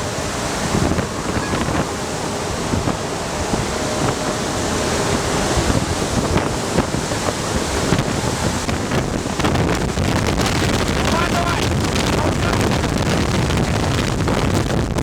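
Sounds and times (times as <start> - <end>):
ventilation fan air rush: 0.0 - 15.0
wind buffeting microphone: 0.0 - 15.0.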